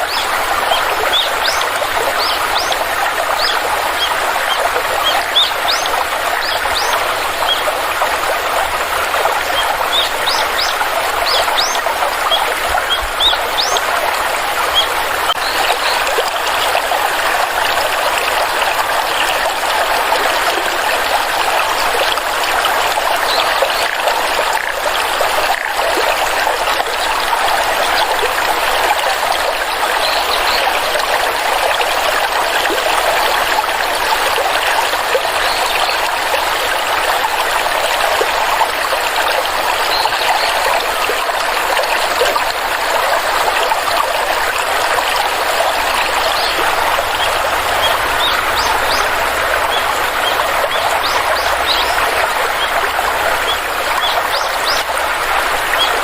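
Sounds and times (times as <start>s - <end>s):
water stream trickling: 0.0s - 56.0s.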